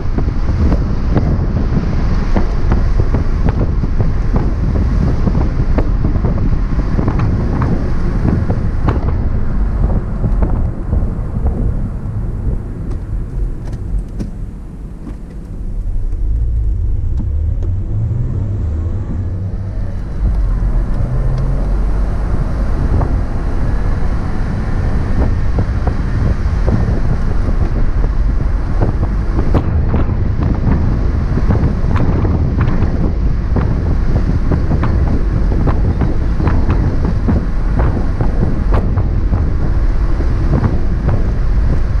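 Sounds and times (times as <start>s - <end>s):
car engine running: 0.0s - 42.0s
road noise: 0.0s - 42.0s
wind rumble on microphone: 0.0s - 42.0s.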